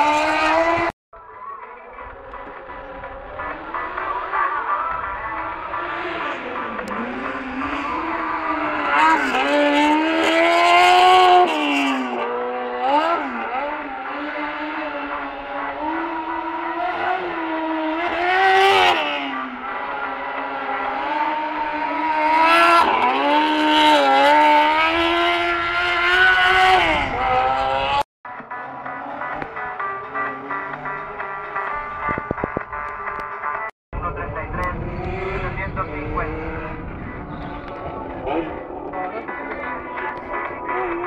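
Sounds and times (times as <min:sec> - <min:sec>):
rally car engine revving: 0:00.0 - 0:01.0, 0:01.9 - 0:41.0.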